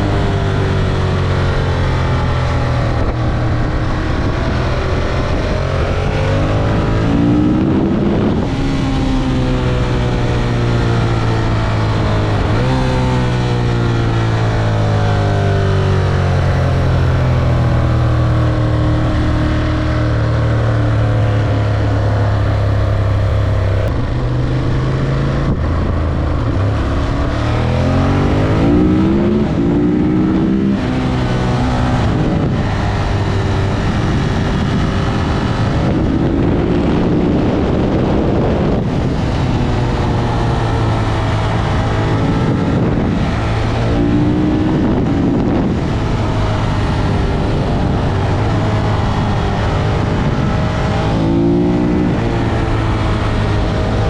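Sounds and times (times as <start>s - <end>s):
motorcycle engine accelerating: 0.0s - 54.0s
wind and road rush: 0.0s - 54.0s.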